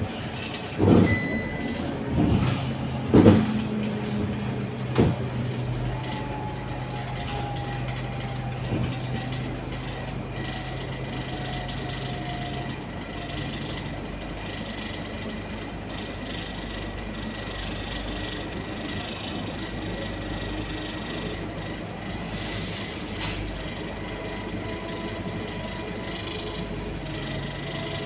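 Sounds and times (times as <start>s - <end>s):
bus engine and road noise: 0.0s - 28.0s.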